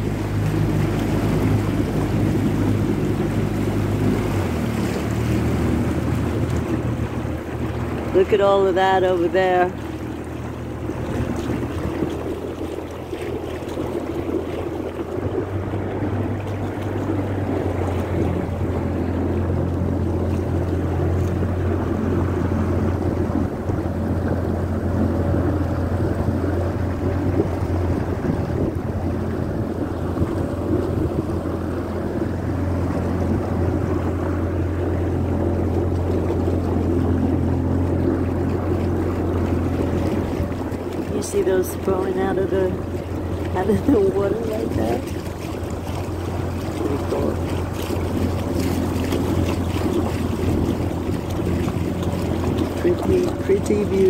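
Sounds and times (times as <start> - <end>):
boat motor humming: 0.0 - 54.0
water rushing along hull: 0.0 - 54.0
wind buffeting microphone: 0.0 - 54.0.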